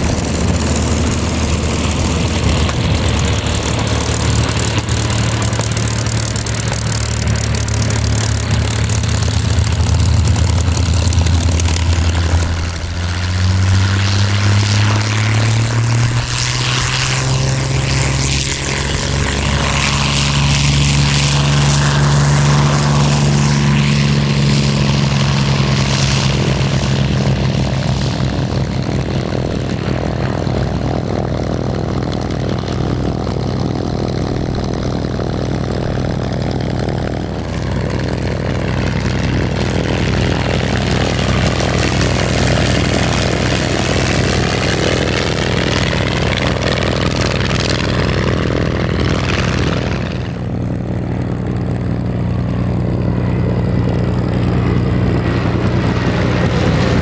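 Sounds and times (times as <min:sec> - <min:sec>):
piston aircraft engine running: 0:00.0 - 0:57.0
propeller drone: 0:00.0 - 0:57.0.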